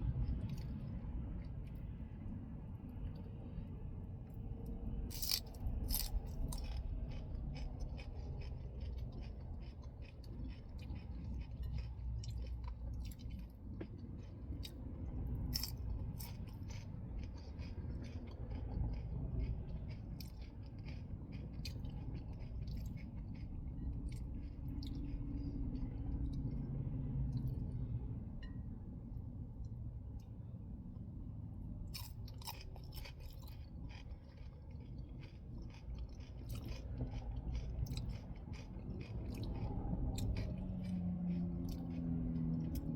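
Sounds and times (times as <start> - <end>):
person chewing crisp food: 0.0 - 2.2, 4.4 - 27.9, 31.9 - 42.9
steady low rumble: 0.0 - 42.9.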